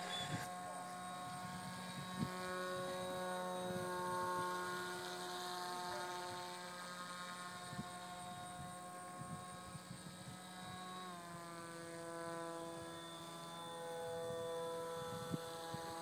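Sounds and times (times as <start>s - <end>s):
model aircraft propeller buzzing: 0.0s - 16.0s.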